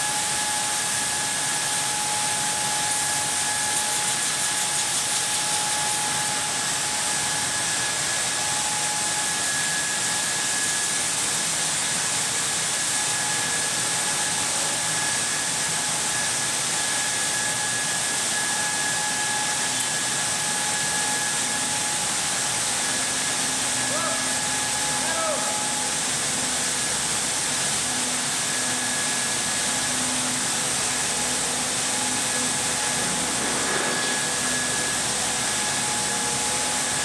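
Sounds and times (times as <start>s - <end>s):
drilling machine hissing: 0.0s - 37.0s
high machine whine: 0.0s - 37.0s.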